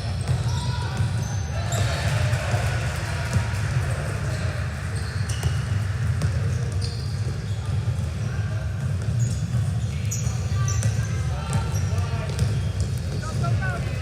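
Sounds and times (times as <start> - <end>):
sneaker squeaks on court floor: 0.0 - 2.7, 4.2 - 13.9.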